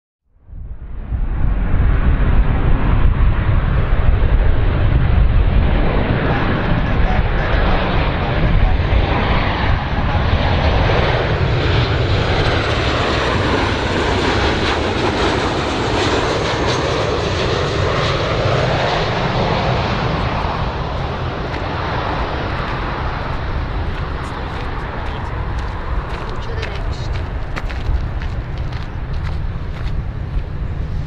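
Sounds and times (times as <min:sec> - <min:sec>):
jet engines droning: 0:00.4 - 0:31.0.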